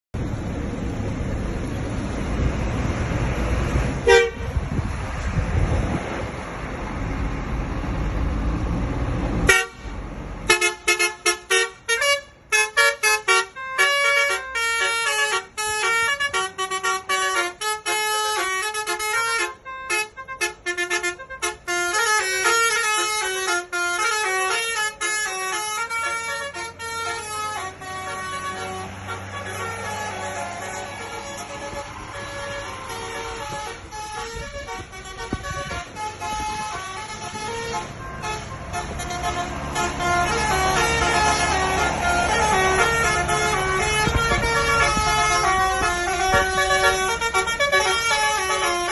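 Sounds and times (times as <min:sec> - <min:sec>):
engine and road rumble: 0:00.1 - 0:48.9
multi-tone bus horn tune: 0:03.3 - 0:05.2, 0:09.4 - 0:48.9.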